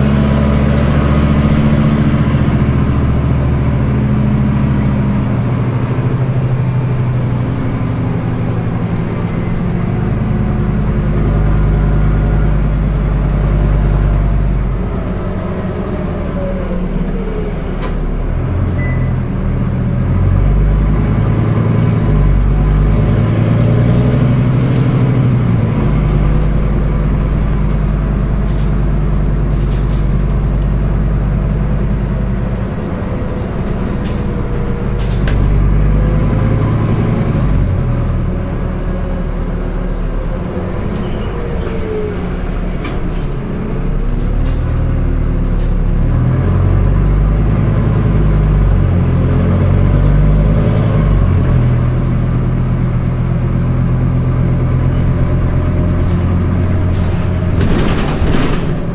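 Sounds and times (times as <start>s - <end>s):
bus diesel engine running: 0.0s - 58.9s.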